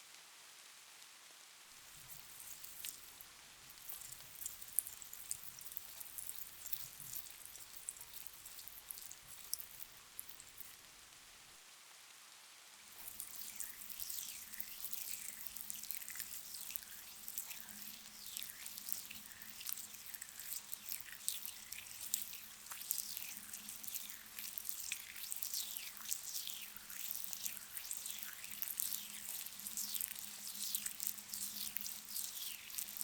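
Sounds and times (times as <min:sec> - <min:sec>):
wet crackly squishing of scrub: 0:01.8 - 0:11.2, 0:12.9 - 0:33.0.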